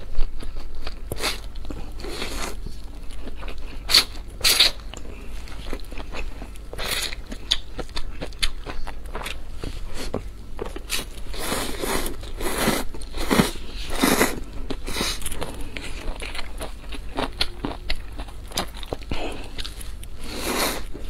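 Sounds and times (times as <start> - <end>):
wet chewing: 0.1 - 21.0.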